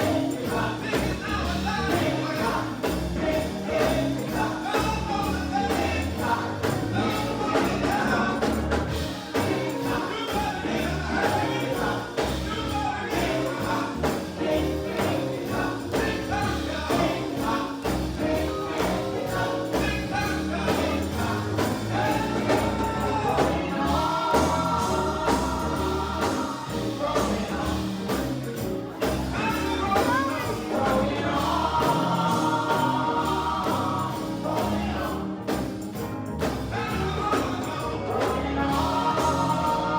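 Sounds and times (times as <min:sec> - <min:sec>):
gospel group singing: 0:00.0 - 0:39.9.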